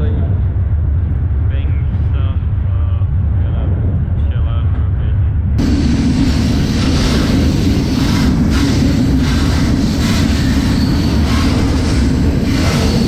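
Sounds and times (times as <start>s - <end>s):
freight train rumbling on track: 0.0s - 13.0s.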